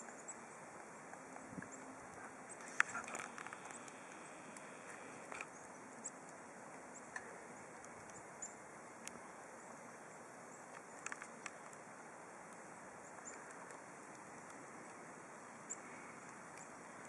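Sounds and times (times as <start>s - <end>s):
hiss of snowstorm wind: 0.0s - 17.0s.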